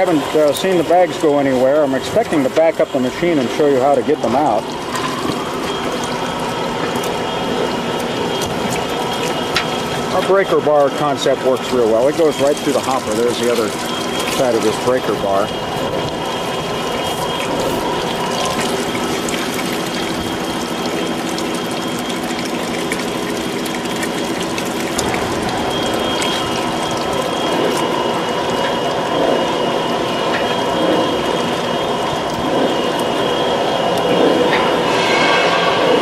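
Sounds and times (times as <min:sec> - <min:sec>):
juice splashing into bucket: 0:00.0 - 0:35.8.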